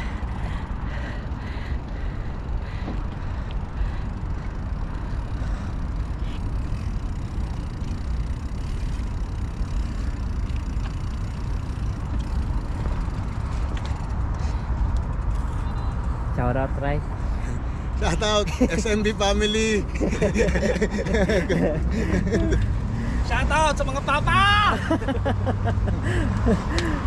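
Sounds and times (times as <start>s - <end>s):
wind rumble and road noise: 0.0s - 27.0s.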